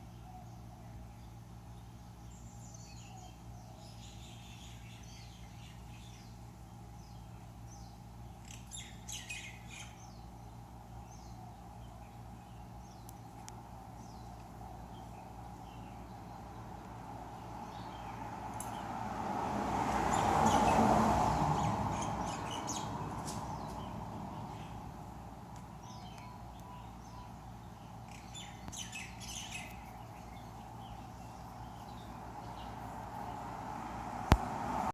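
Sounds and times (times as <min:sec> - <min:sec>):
steady low hum: 0:00.0 - 0:19.2, 0:21.8 - 0:34.7
birds chirping: 0:00.0 - 0:34.9.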